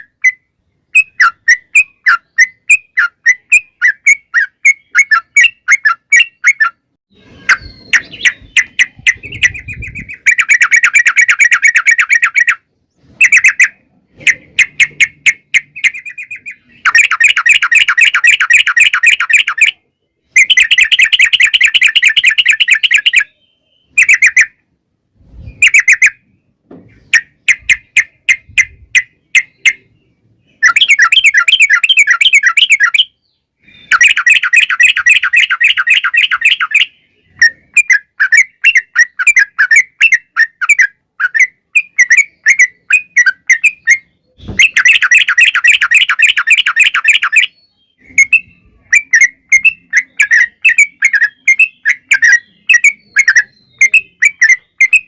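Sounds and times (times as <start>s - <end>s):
bird singing rattling trills: 0.0s - 24.6s, 25.3s - 55.0s.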